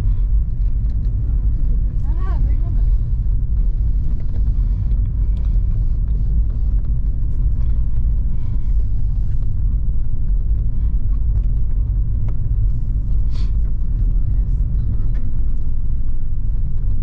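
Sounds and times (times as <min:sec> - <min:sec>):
car engine running: 0:00.0 - 0:17.0
tyre and road noise: 0:00.0 - 0:17.0.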